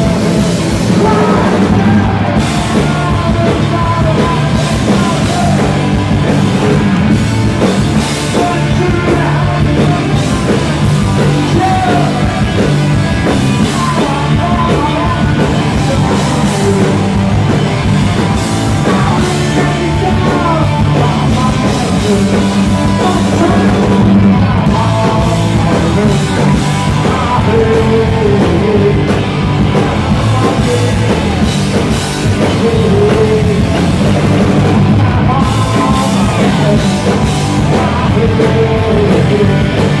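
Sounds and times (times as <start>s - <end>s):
bass guitar: 0.0s - 40.0s
drum kit: 0.0s - 40.0s
electric guitars: 0.0s - 40.0s
man singing: 0.0s - 40.0s.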